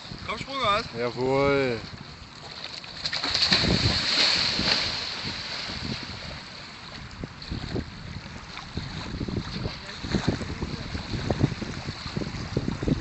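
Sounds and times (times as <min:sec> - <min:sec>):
heavy water splashing: 0:00.0 - 0:13.0.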